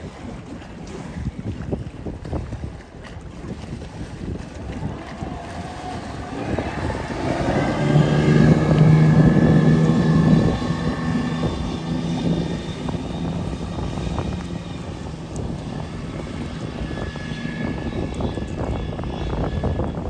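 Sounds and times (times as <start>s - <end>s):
engine drone: 0.0s - 20.0s
wind buffeting microphone: 0.0s - 20.0s.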